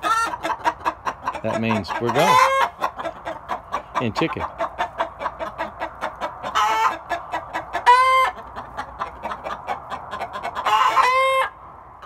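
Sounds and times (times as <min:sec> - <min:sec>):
chicken drawn-out calls: 0:00.0 - 0:12.0
chickens clucking: 0:00.0 - 0:12.0.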